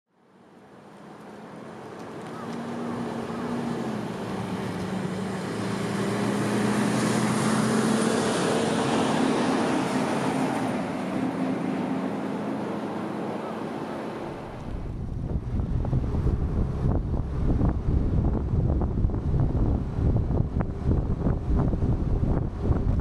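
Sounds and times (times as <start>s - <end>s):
road traffic: 0.1s - 23.0s
truck engine hum passing: 0.7s - 23.0s.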